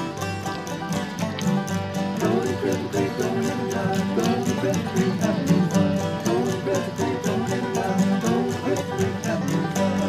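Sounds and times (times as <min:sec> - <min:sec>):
bluegrass music with banjo and guitar: 0:00.0 - 0:10.0.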